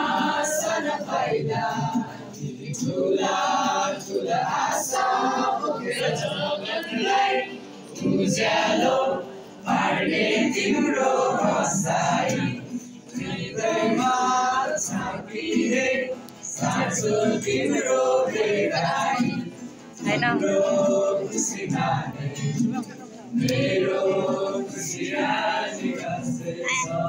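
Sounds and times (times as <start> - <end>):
boys singing: 0.0 - 22.8, 23.4 - 27.0
strummed acoustic guitar: 0.0 - 27.0.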